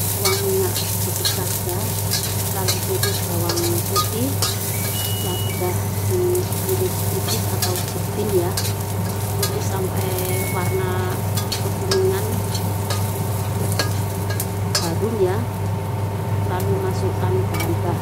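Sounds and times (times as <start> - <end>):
garlic sizzling in hot oil: 0.0 - 18.0
steady low hum: 0.0 - 18.0
metal spatula scraping a wok: 0.1 - 15.0.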